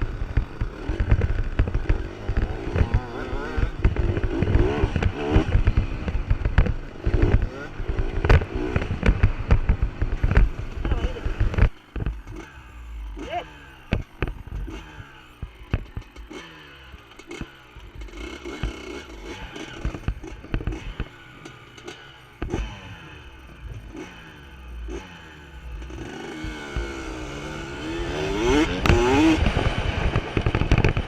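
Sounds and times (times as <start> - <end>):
motocross bikes revving: 0.0 - 31.0.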